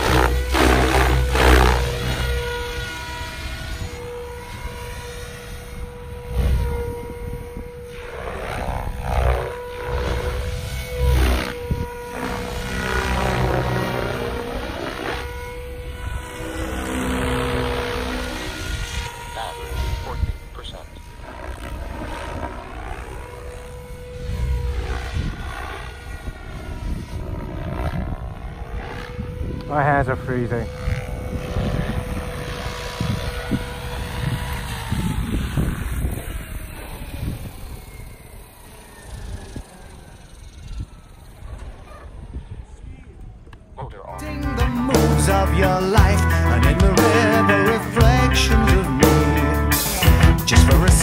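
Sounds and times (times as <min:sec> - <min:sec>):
spinning rotor rush: 0:00.0 - 0:42.7
helicopter motor whine: 0:00.0 - 0:51.0.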